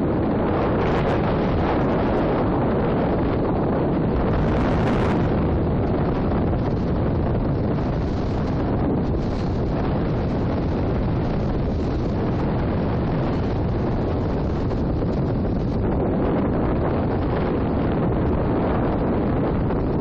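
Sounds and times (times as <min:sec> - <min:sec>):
wind blowing on microphone: 0:00.0 - 0:20.0.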